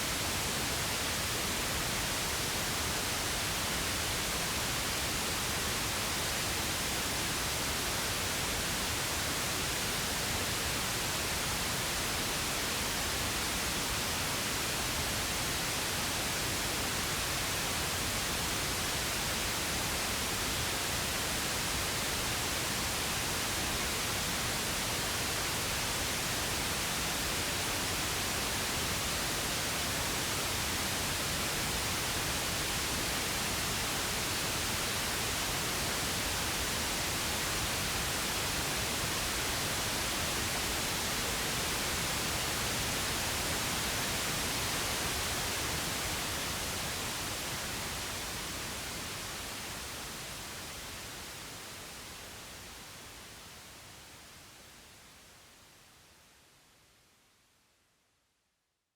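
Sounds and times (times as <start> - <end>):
pink noise hiss: 0.0 - 57.5.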